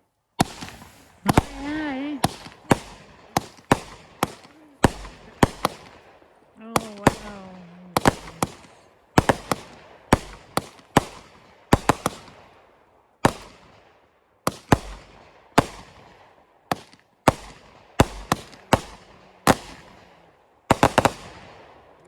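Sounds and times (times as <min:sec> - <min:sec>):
fireworks bangs: 0:00.4 - 0:22.0.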